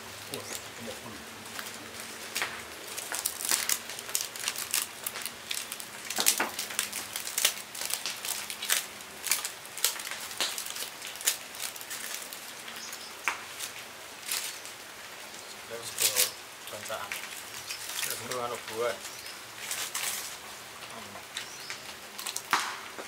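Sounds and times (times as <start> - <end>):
plastic and leaf wrappings crinkling: 0.0 - 23.0.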